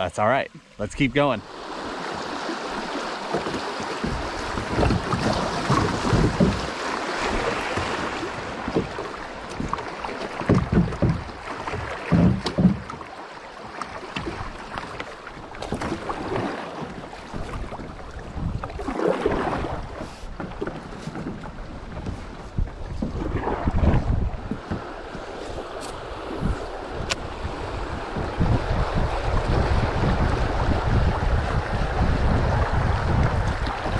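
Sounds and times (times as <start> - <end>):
wind buffeting microphone: 1.5 - 12.9, 15.4 - 33.9.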